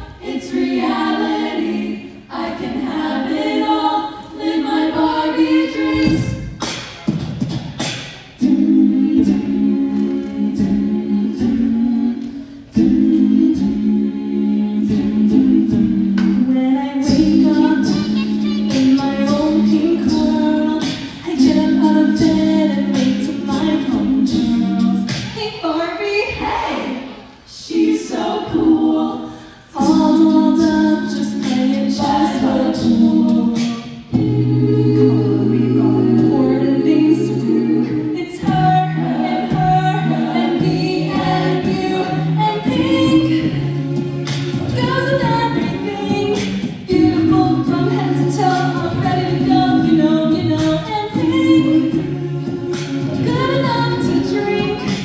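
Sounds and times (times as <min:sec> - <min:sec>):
vocal group singing chords: 0:00.0 - 0:25.6, 0:26.2 - 0:55.0.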